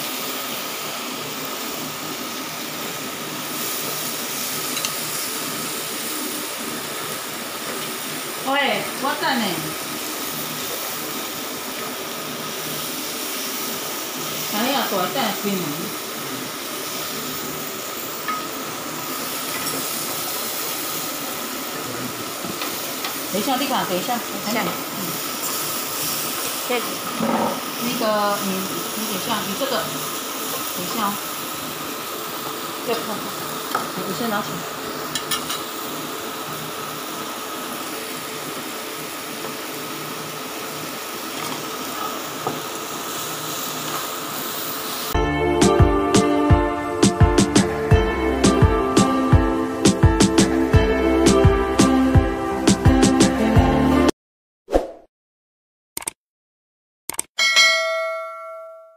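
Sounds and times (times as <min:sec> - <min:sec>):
food sizzling on a grill pan: 0:00.0 - 0:52.8.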